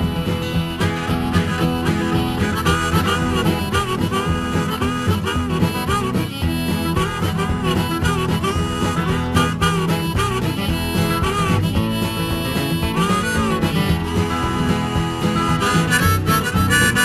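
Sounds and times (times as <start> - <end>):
guitar backing: 0.0 - 17.0
harmonica solo with bending notes: 0.0 - 17.0.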